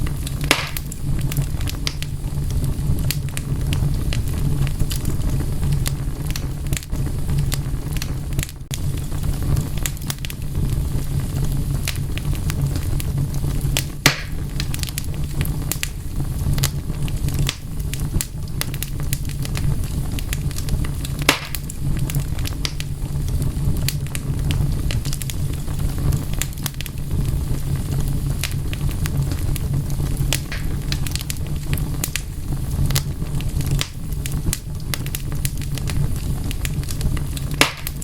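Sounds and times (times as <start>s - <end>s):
low rumble: 0.0s - 37.6s
wood fire crackling: 0.0s - 38.0s.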